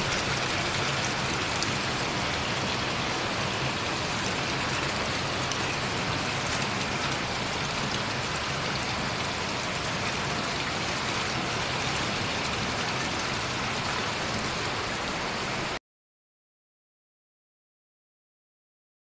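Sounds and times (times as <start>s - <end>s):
rainwater pouring from hoses: 0.0s - 15.8s.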